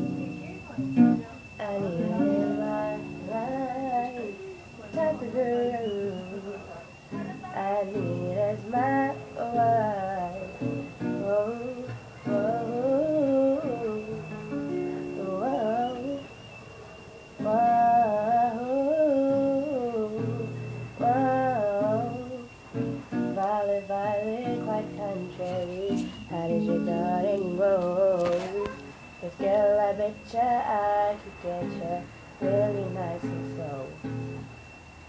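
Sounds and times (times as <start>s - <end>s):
acoustic guitar strummed: 0.0s - 16.4s, 17.4s - 34.7s
person humming a melody: 1.6s - 14.4s, 17.4s - 22.5s, 23.3s - 34.0s.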